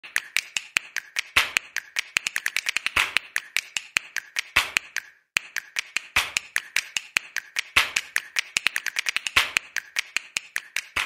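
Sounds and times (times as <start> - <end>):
rapid dry clicking: 0.0 - 11.0.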